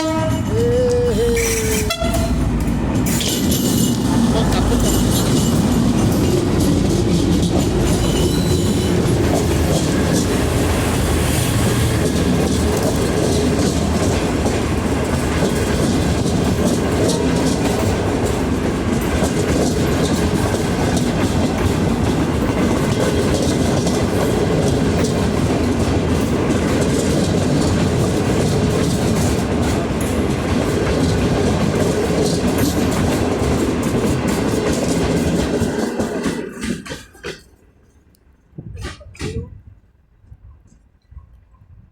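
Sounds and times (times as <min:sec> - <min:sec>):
wheels clicking over rail joints: 0:00.0 - 0:10.8, 0:11.7 - 0:39.6
passenger train rolling past: 0:00.0 - 0:40.7.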